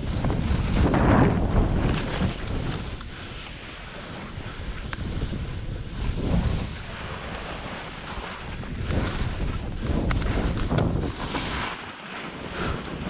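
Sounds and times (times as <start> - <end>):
wind rumble on microphone: 0.0 - 13.0
skis hissing through powder snow: 0.1 - 13.0.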